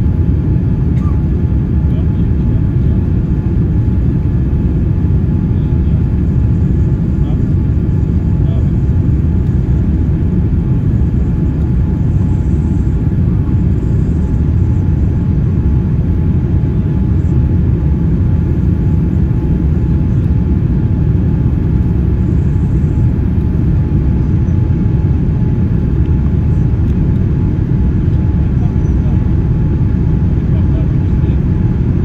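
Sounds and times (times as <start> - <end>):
airplane cabin rumble: 0.0 - 32.0
thin steady hum: 0.0 - 32.0.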